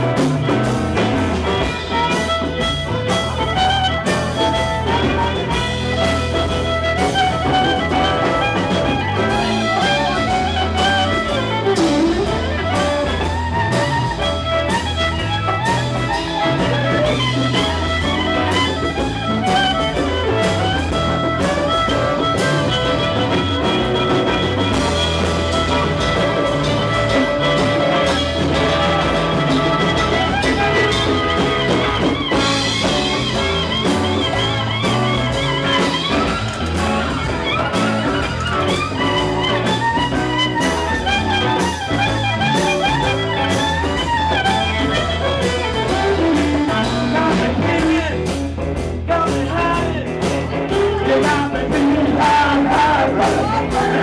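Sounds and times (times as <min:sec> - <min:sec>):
drum kit: 0:00.0 - 0:54.0
electric guitar: 0:00.0 - 0:54.0
fiddle playing sliding lines: 0:00.0 - 0:54.0.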